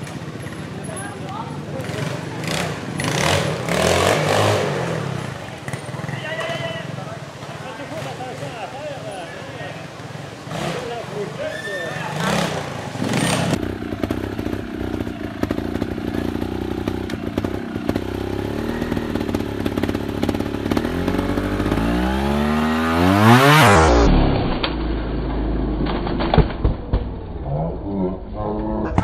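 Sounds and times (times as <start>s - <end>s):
motorcycle engine revving: 0.0s - 28.1s.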